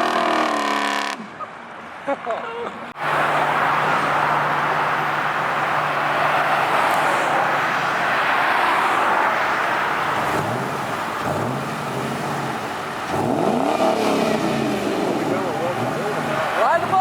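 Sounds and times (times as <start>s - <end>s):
car engine revving: 3.0s - 17.0s.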